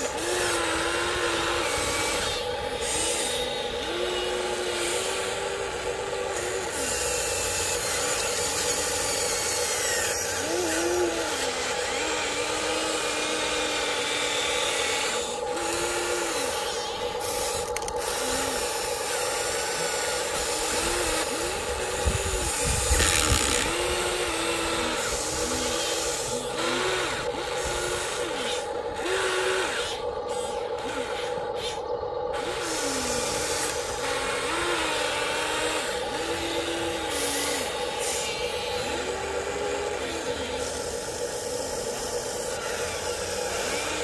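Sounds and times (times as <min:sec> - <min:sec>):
electric motors whining: 0:00.0 - 0:44.0.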